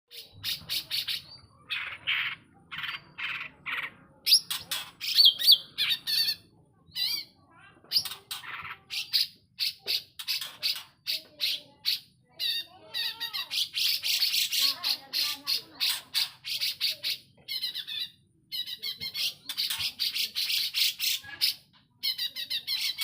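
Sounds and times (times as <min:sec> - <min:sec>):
bird singing chattering and whistling: 0:00.1 - 0:23.0.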